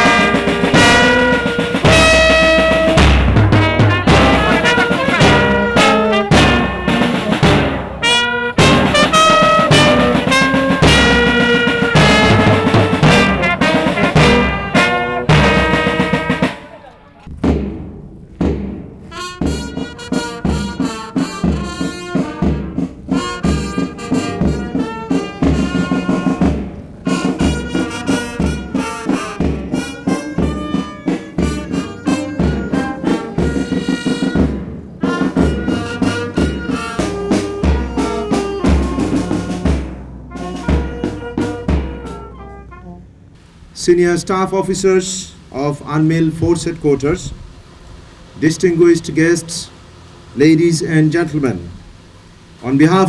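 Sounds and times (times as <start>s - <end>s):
military brass band march: 0.0s - 53.0s.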